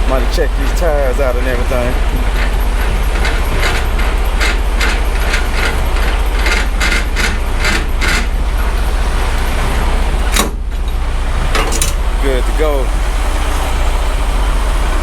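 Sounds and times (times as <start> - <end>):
crank and gearbox clicking: 0.1 - 12.4.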